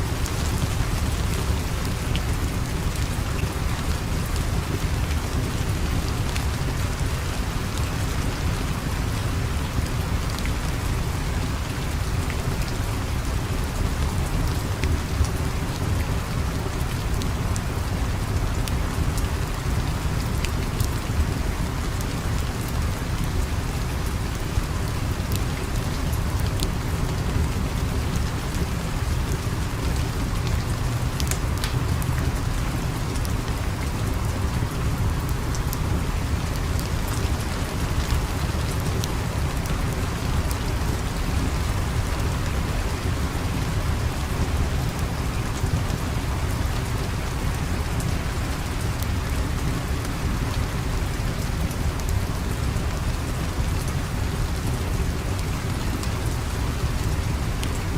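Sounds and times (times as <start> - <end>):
steady rain: 0.0 - 57.9.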